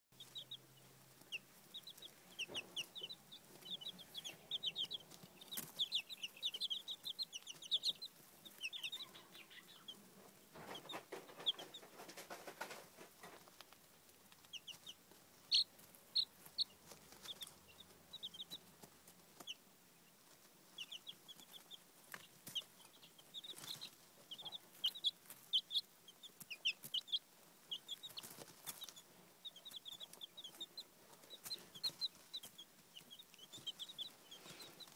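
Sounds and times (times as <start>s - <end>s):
baby chicks peeping: 0.1s - 34.9s
rustling: 0.2s - 34.9s.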